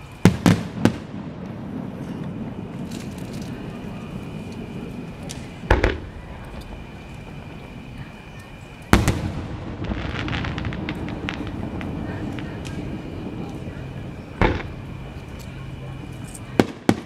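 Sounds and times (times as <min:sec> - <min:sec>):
faint crackles: 0:00.0 - 0:17.0
firework booms: 0:00.0 - 0:17.0
steady background noise: 0:00.0 - 0:17.0.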